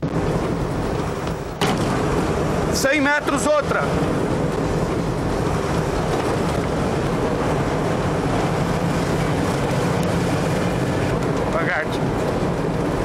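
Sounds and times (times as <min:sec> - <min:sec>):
rally car engine running: 0:00.0 - 0:13.0.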